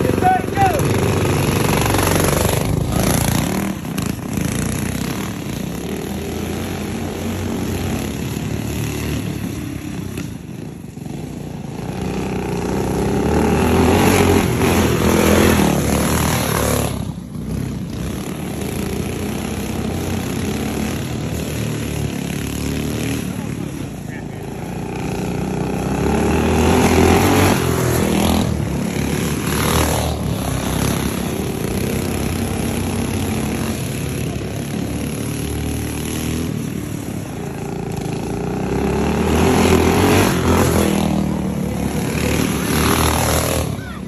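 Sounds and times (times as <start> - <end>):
go-kart engines racing: 0.0 - 44.0.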